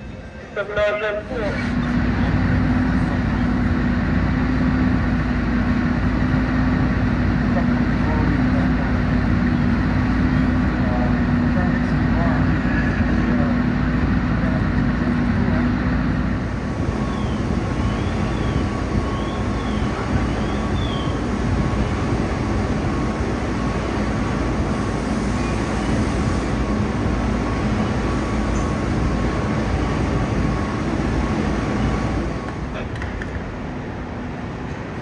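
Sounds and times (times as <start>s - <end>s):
diesel engines rumbling: 0.0s - 35.0s.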